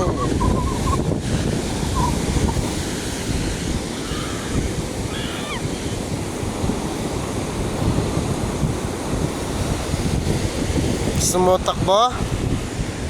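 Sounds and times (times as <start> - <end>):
ocean surf washing on beach: 0.0 - 13.0
wind buffeting microphone: 0.0 - 13.0.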